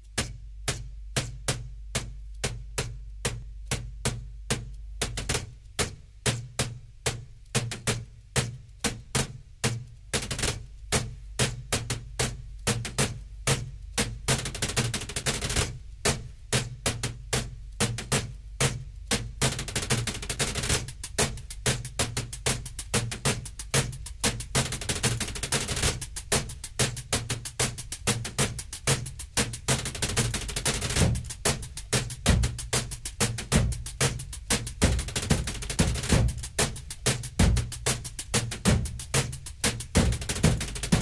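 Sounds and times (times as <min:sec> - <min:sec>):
hands drumming on computer case: 0:00.0 - 0:41.0.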